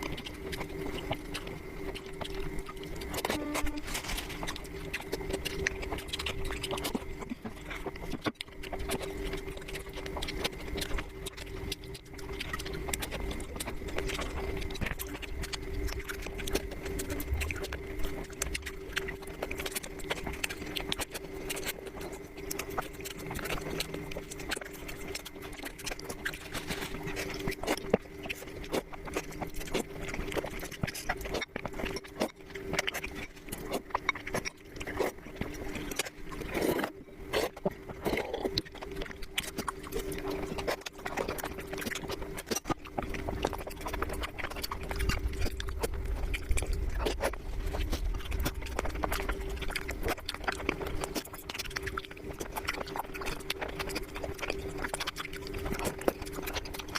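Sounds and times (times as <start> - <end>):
person chewing food: 0.0 - 56.9
steady low hum: 0.0 - 56.9.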